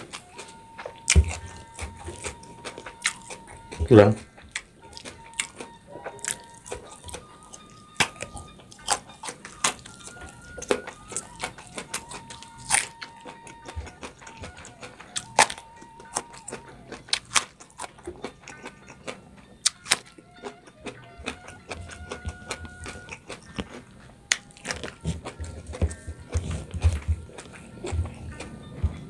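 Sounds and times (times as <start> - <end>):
crunching raw vegetables: 0.0 - 29.0.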